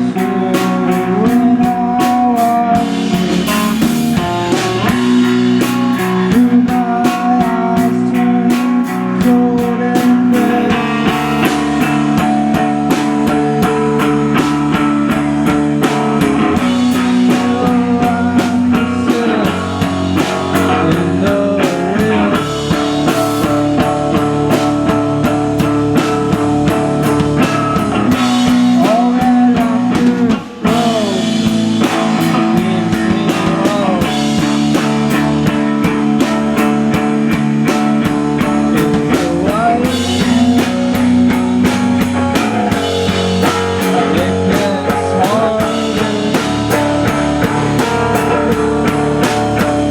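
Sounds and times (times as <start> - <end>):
drum kit: 0.0 - 49.9
electric guitars with bent notes: 0.0 - 49.9.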